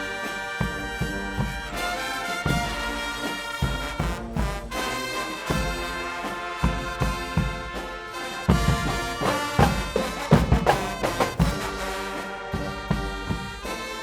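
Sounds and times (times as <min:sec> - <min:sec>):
brass instruments holding chords: 0:00.0 - 0:14.0
drum beats: 0:00.0 - 0:14.0.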